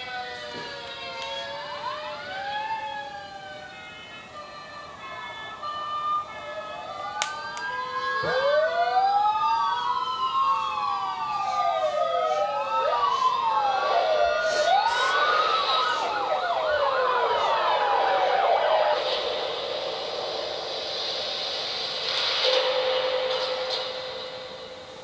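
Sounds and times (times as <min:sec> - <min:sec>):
police sirens wailing: 0:00.0 - 0:25.0.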